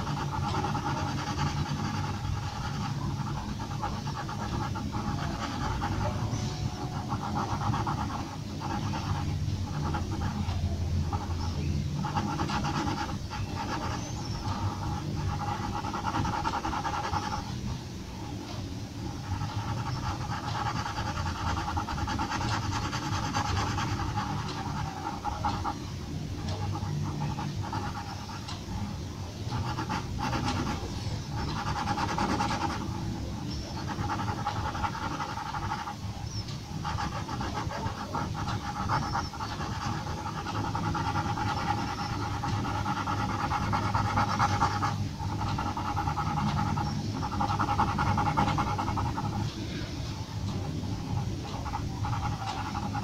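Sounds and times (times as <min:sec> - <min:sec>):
pencil scratching on paper: 0:00.0 - 0:17.6, 0:18.3 - 0:53.0.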